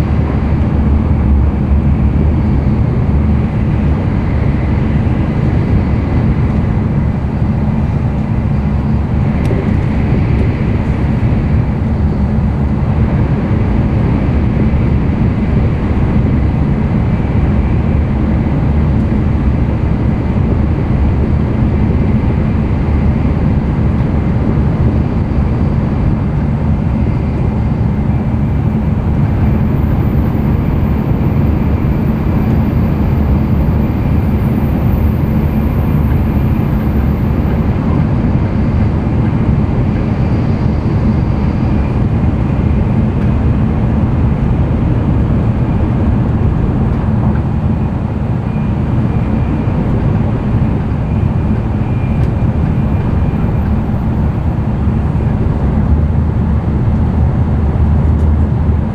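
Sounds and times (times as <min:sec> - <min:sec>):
train rumbling inside car: 0:00.0 - 0:58.9.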